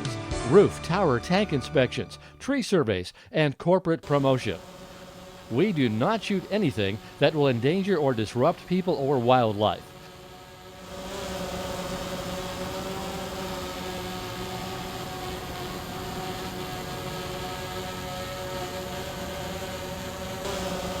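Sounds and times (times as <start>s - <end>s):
drone propellers humming: 4.0s - 21.0s.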